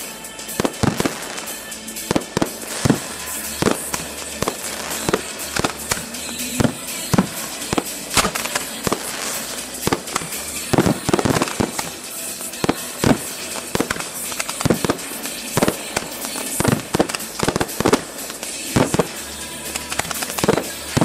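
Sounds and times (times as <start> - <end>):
fireworks bangs and launch thumps: 0.0 - 21.0
steady hiss: 0.0 - 21.0.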